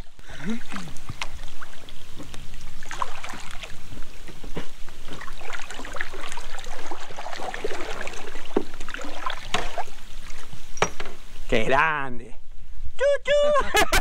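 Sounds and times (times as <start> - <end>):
water splashing against kayak hulls: 0.0 - 11.5.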